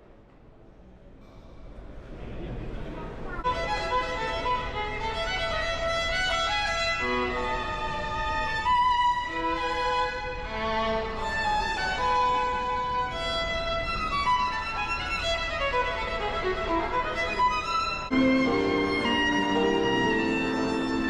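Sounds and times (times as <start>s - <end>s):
violin melody: 3.4s - 21.0s.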